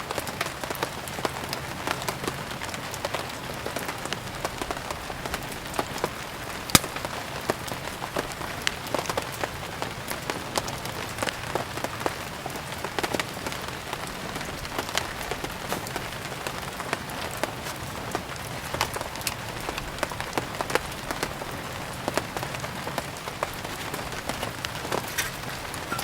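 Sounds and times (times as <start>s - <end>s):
rain hissing: 0.0s - 26.0s
wood fire crackling and popping: 0.2s - 26.0s.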